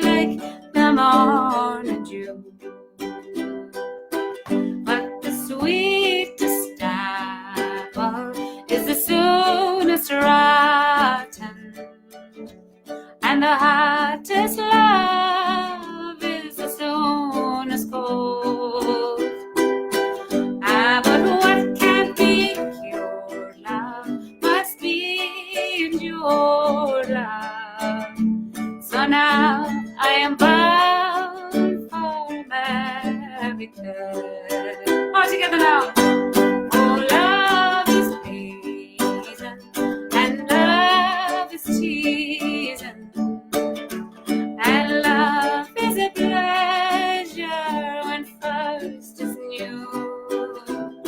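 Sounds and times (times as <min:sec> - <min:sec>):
strummed string instrument: 0:00.0 - 0:51.0
woman singing folk song: 0:00.0 - 0:51.0.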